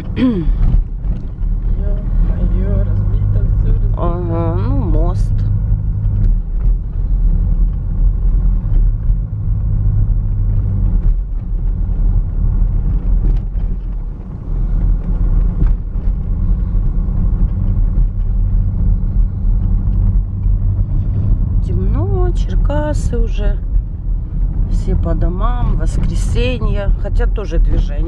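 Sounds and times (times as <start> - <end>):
car cabin road and engine rumble: 0.0 - 28.0.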